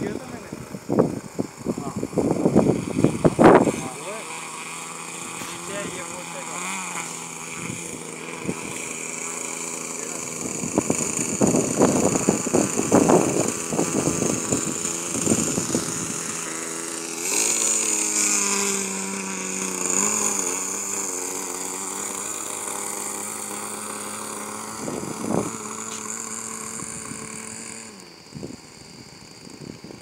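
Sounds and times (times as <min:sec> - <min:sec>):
model plane engine: 0:00.0 - 0:30.0.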